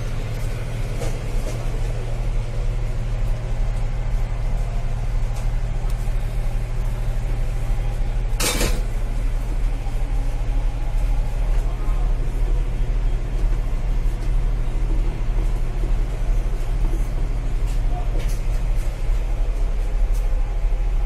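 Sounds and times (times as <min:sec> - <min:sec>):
train coach rumble and hum: 0:00.0 - 0:21.0.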